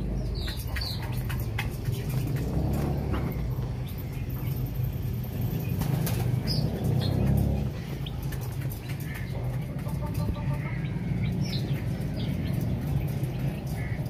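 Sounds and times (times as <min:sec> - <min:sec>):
chickens pecking metal bowl: 0:00.0 - 0:14.0
chicks chirping: 0:00.0 - 0:14.0.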